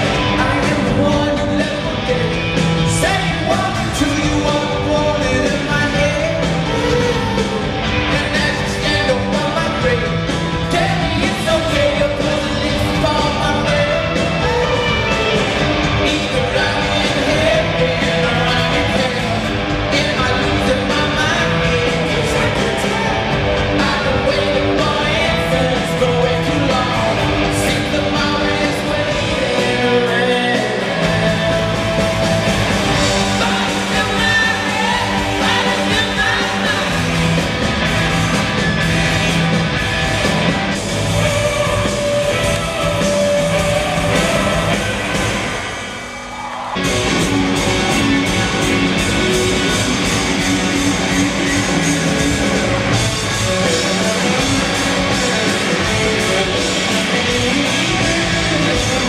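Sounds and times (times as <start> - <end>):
lead singer singing: 0.0 - 37.4, 40.2 - 46.1, 47.1 - 59.0
live rock band playing: 0.0 - 59.0.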